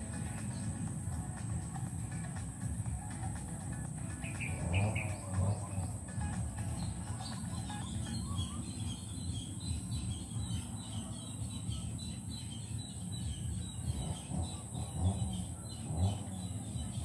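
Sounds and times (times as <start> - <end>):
low outdoor rumble: 0.0 - 17.0
small birds chirping: 0.0 - 17.0.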